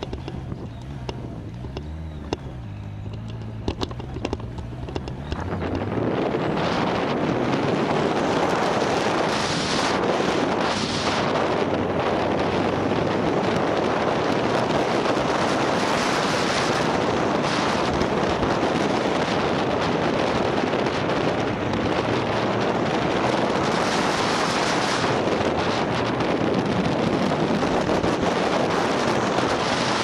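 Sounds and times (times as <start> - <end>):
faint motorcycle engine hum: 0.0 - 30.0
wind buffeting microphone: 0.0 - 30.0.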